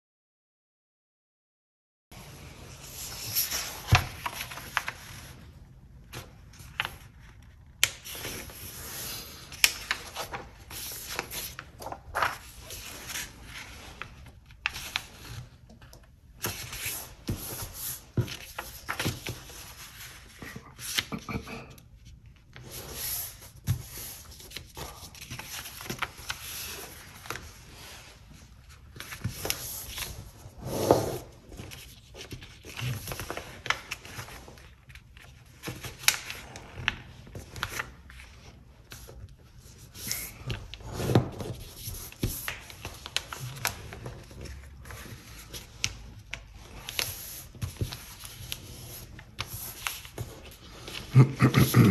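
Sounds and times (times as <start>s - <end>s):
paper rustling: 2.3s - 30.5s, 31.2s - 51.9s.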